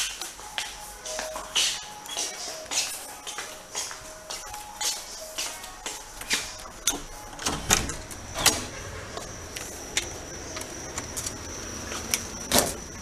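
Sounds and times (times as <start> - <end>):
high-pitched insect trill: 1.0 - 13.0.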